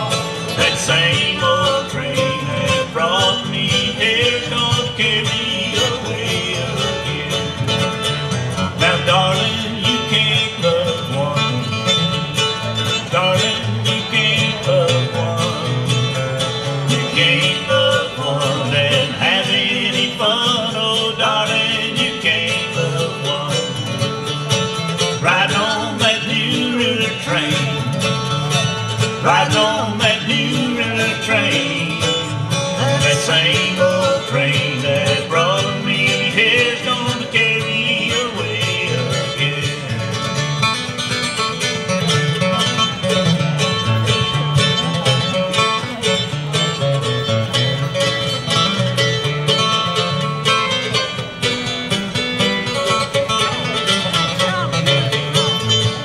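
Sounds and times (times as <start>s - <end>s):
acoustic guitar picking: 0.0s - 56.0s
bluegrass band playing: 0.0s - 56.0s
mandolin picking: 0.0s - 56.0s.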